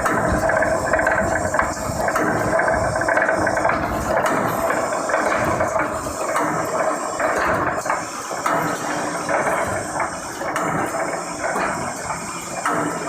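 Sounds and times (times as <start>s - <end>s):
welding machine hissing: 0.0s - 13.0s.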